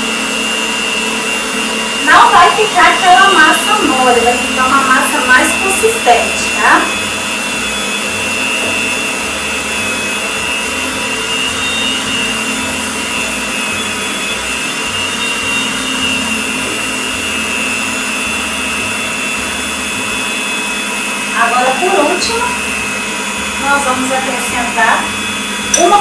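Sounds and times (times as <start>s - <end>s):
electric stand mixer whining: 0.0s - 26.0s.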